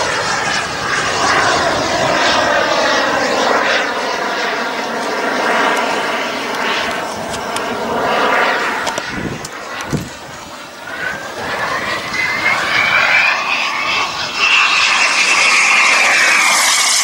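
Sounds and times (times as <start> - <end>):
model jet engine roar: 0.0 - 17.0.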